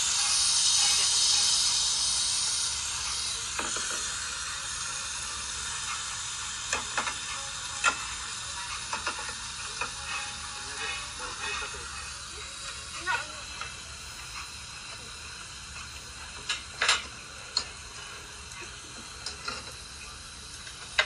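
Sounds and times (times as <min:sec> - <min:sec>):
meat sizzling on a grill: 0:00.0 - 0:21.0.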